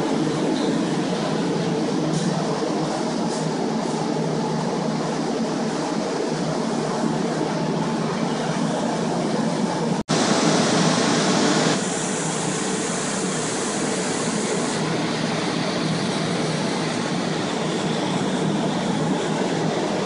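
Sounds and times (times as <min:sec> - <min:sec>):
drying fans running: 0:00.0 - 0:20.0.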